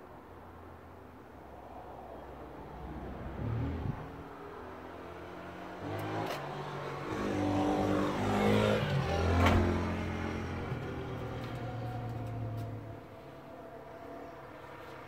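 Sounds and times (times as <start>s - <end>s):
motor vehicle passing by: 1.6s - 15.0s.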